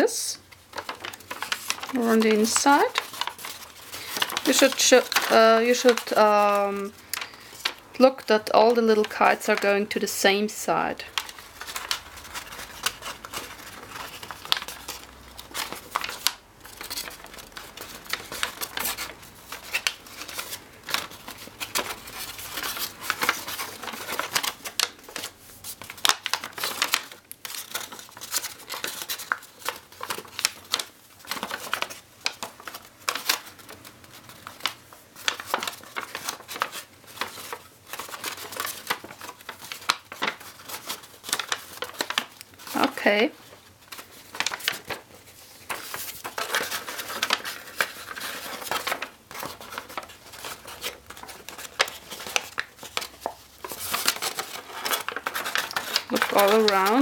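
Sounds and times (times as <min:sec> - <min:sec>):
paper crinkling while folded: 0:00.0 - 0:57.0.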